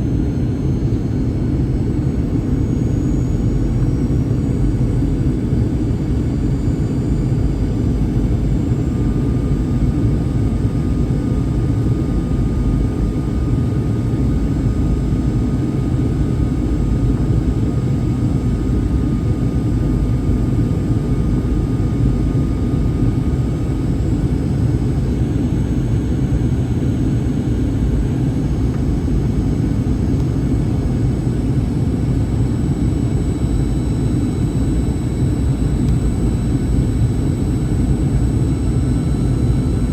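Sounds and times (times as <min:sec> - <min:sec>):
aircraft engines and airflow rumble: 0:00.0 - 0:39.9
faint steady whine: 0:00.0 - 0:39.9.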